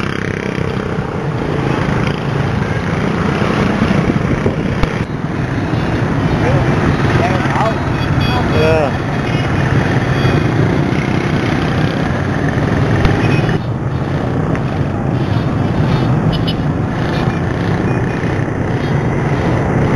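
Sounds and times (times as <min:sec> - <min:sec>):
road traffic engines: 0:00.0 - 0:19.9.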